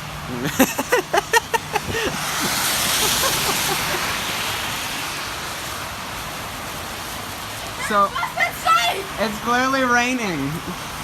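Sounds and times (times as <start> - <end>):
car tyres hissing on wet road: 0.0 - 11.0
steady rain: 0.0 - 11.0.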